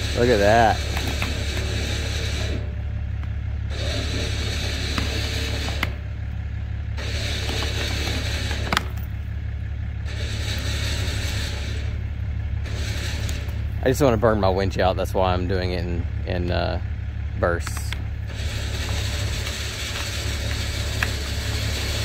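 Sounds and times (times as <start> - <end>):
truck engine idling: 0.0 - 22.0
winch motor pulling: 0.0 - 22.0.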